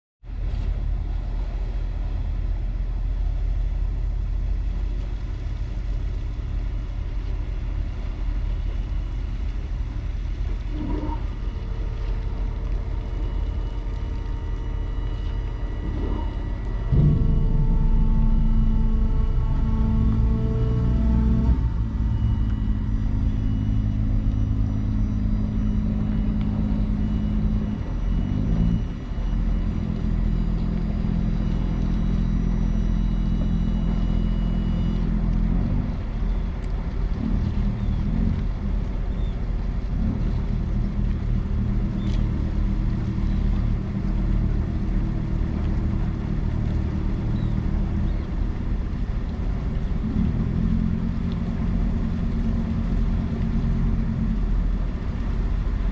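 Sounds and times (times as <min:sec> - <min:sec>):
diesel engines droning: 0:00.3 - 0:55.9
faint high whine: 0:00.4 - 0:39.4, 0:40.0 - 0:55.9.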